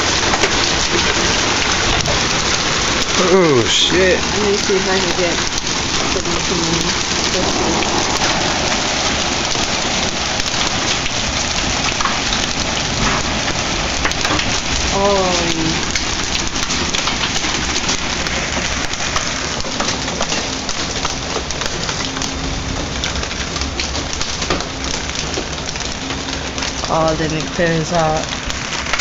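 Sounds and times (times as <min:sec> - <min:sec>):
hail and rain pounding: 0:00.0 - 0:29.0
hailstones ticking: 0:00.0 - 0:29.0.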